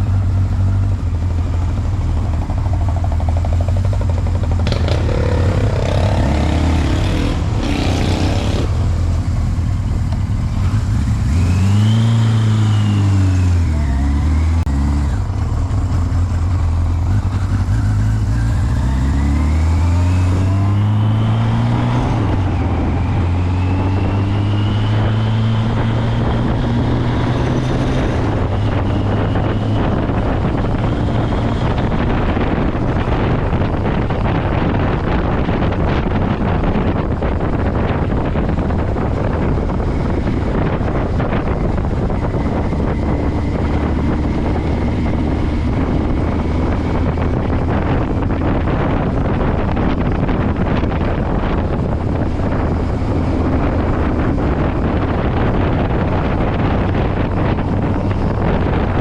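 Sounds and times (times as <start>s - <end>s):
motorcycle engine accelerating: 0.0s - 59.0s
wind rush: 1.8s - 59.0s.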